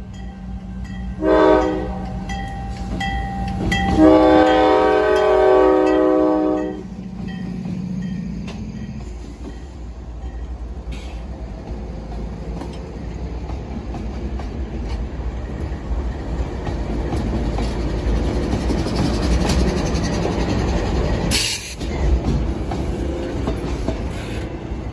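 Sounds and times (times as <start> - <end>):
freight train rumbling past: 0.0 - 24.9.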